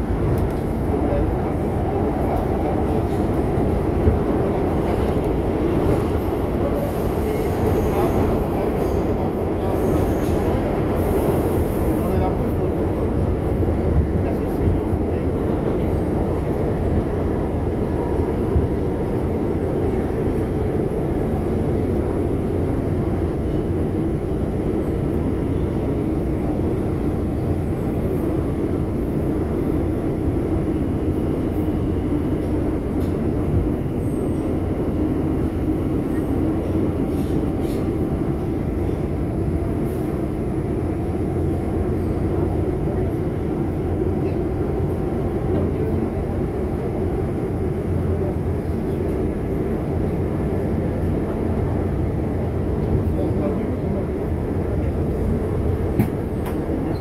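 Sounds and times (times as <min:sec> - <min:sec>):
subway train rumbling through tunnel: 0:00.0 - 0:57.0.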